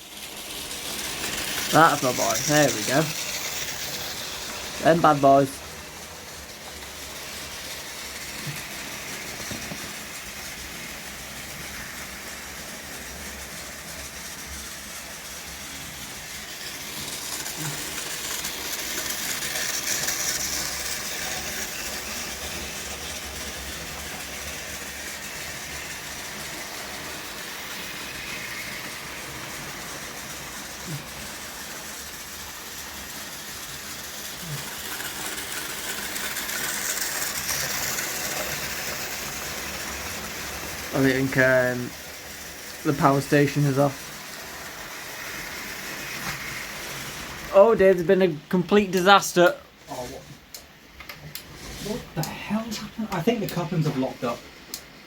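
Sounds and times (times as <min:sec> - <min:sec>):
model trains whirring on track: 0:00.0 - 0:55.0.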